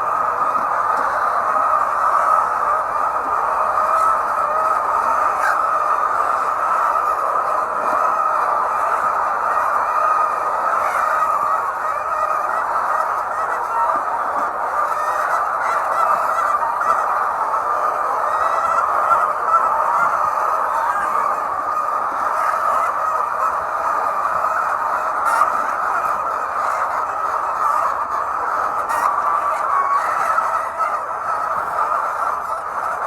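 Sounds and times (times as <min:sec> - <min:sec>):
hens clucking: 0:00.0 - 0:33.0.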